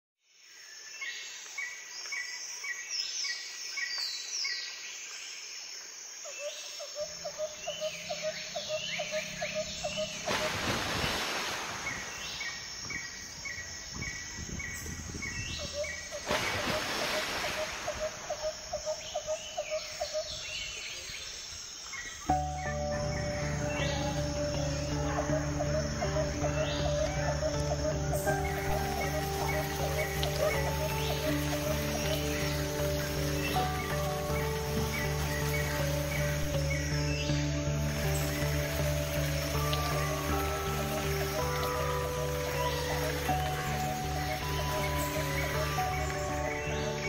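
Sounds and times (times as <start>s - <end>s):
insect drone: 0.3s - 47.0s
low bird chirping: 6.4s - 47.0s.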